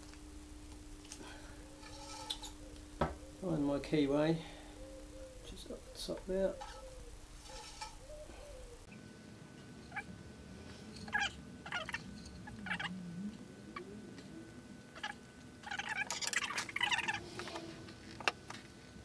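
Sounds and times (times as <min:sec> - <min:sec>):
faint wavering low hum: 0:00.0 - 0:19.0.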